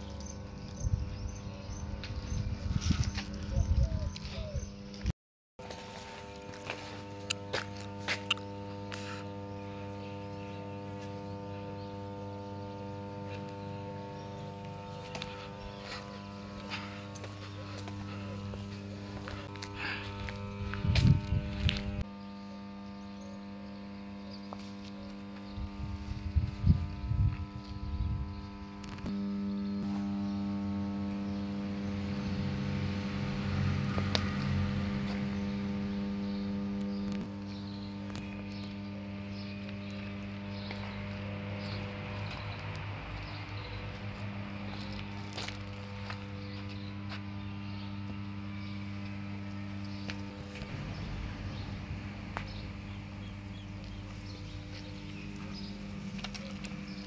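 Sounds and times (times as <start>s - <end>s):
transformer hum: 0.0s - 57.0s.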